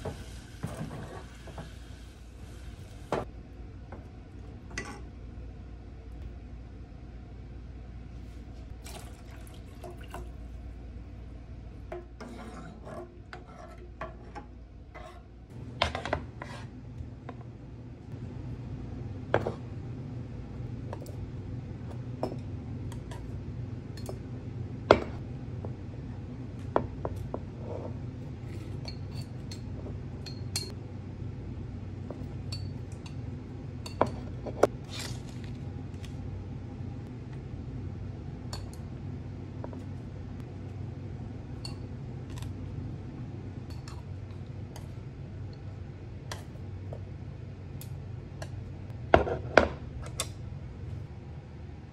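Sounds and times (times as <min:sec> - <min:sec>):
low kitchen hum: 0:00.0 - 0:51.9.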